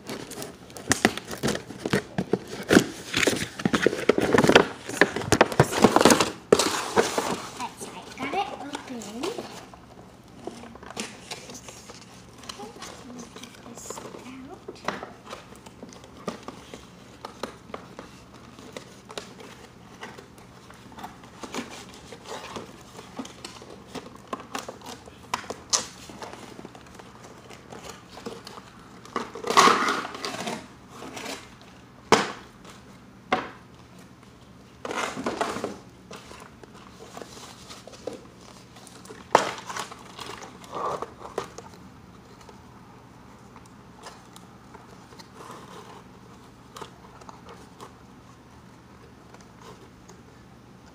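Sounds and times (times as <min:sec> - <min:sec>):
cardboard packaging rustling: 0:00.0 - 0:31.9, 0:33.7 - 0:50.9.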